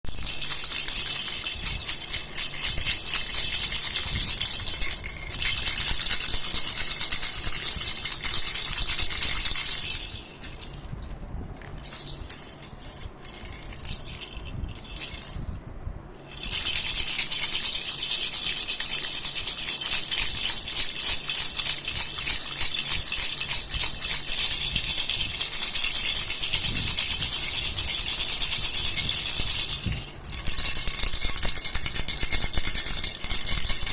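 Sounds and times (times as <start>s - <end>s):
baby rattle shaking: 0.0s - 33.9s.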